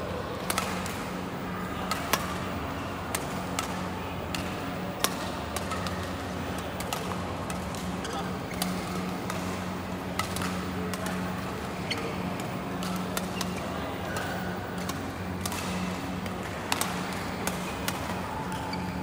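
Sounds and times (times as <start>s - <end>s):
badminton rackets striking shuttlecocks: 0.4s - 2.5s, 3.1s - 19.0s.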